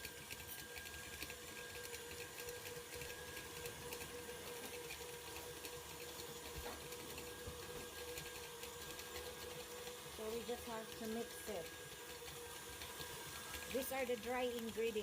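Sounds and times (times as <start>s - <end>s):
electric mixer running: 0.0s - 15.0s.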